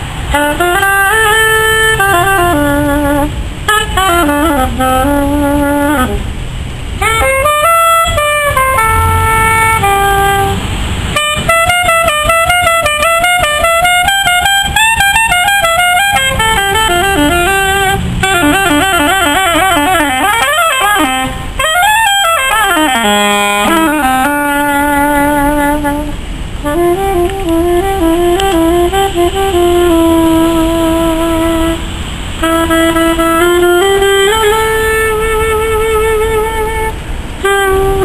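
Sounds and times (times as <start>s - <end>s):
soprano saxophone jazz melody: 0.0s - 38.0s.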